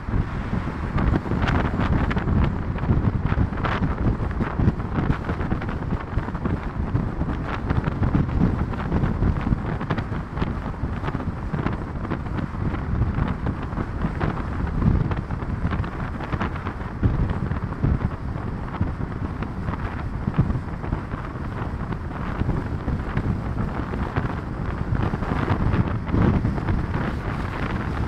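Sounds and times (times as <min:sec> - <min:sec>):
vehicle running noise: 0:00.0 - 0:28.0
wind buffeting microphone: 0:00.0 - 0:28.0.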